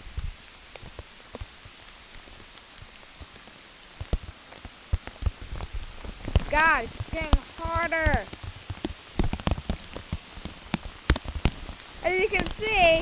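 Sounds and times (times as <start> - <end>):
hard rain hissing: 0.0 - 13.0
raindrops tapping on plastic: 0.0 - 13.0.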